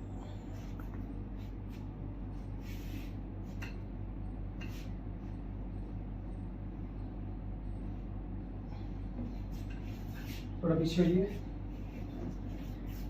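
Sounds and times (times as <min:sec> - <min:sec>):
low hum with fast flutter: 0:00.0 - 0:13.0.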